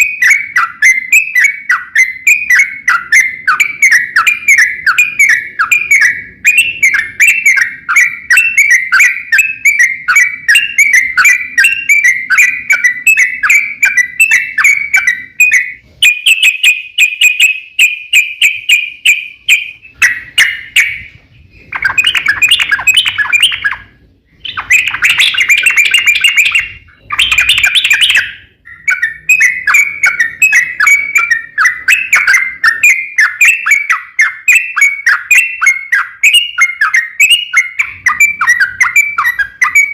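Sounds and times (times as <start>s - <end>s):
bird singing bubbly chirps: 0.0s - 39.9s.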